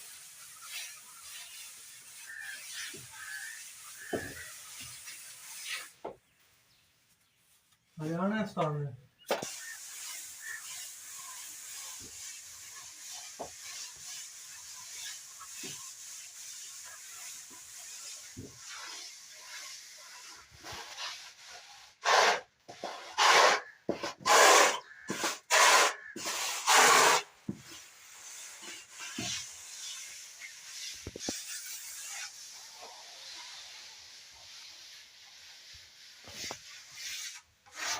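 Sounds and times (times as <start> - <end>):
plastering tool scraping wall: 0.0 - 6.4, 9.3 - 37.9.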